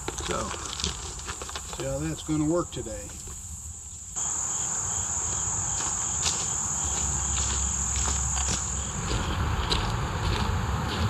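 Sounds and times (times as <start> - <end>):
footsteps on leaf litter: 0.0 - 3.4, 4.0 - 11.0
insect chorus drone: 0.0 - 11.0.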